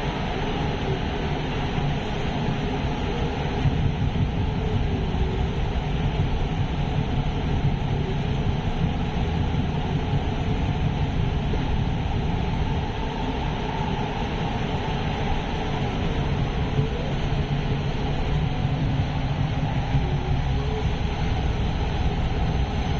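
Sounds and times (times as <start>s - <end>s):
train rumble and hiss: 0.0s - 22.9s.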